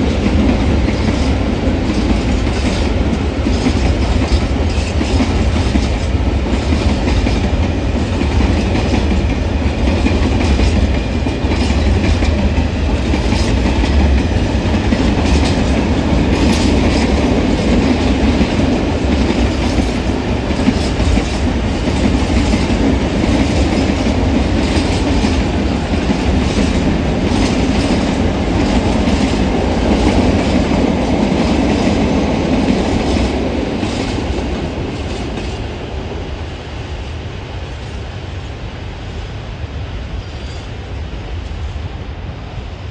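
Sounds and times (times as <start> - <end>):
wheels clacking over rail joints: 0.0 - 35.7
freight train wheels rumbling: 0.0 - 42.9.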